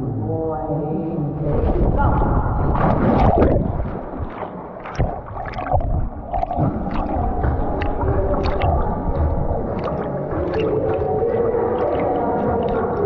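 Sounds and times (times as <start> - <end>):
water sloshing from paddling: 1.4 - 13.0.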